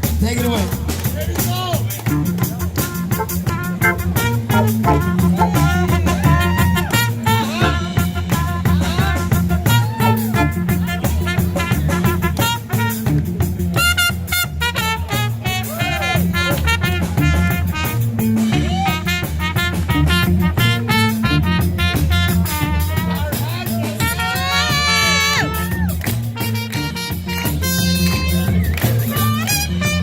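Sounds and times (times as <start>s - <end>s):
reggae band playing: 0.0s - 30.0s
trumpet soloing: 2.1s - 30.0s.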